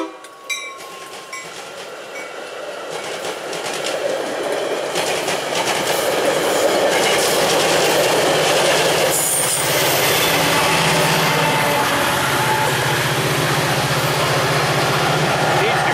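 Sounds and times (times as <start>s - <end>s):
diesel locomotive engine drone: 0.0s - 15.9s
train wheels on rails: 0.0s - 15.9s.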